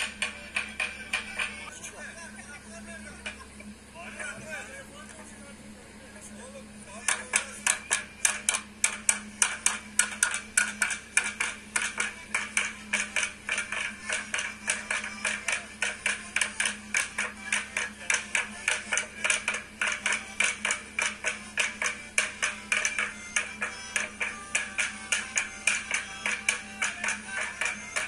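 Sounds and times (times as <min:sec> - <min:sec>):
rhythmic clapping: 0:00.0 - 0:01.7, 0:06.9 - 0:28.0.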